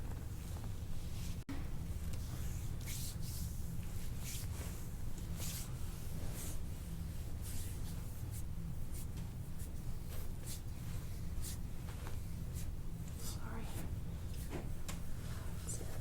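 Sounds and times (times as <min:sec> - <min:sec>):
steady low hum: 0:00.0 - 0:16.0
hands rubbing skin and clothing: 0:02.1 - 0:16.0.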